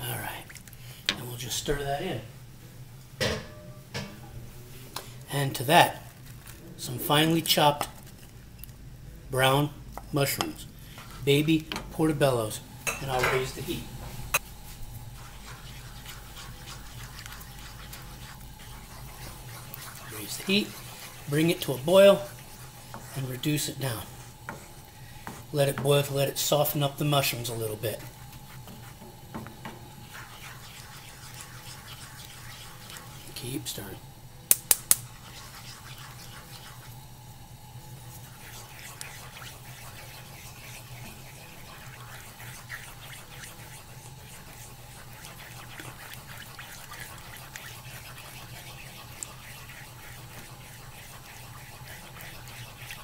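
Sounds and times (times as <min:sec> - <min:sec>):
low steady hum: 0:00.0 - 0:53.0
sauce hissing in a pan: 0:09.8 - 0:53.0.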